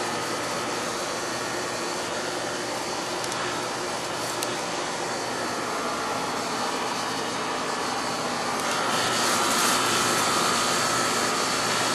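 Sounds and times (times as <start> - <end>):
air conditioner fan blowing: 0.0 - 11.9.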